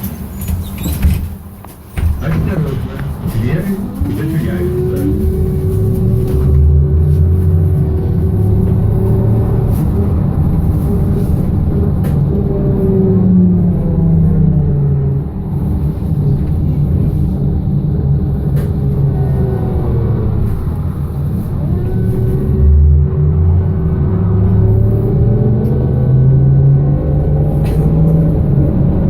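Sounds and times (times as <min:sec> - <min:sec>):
low running rumble: 0:00.0 - 0:29.0
trolleybus electric drive whine: 0:00.0 - 0:29.0.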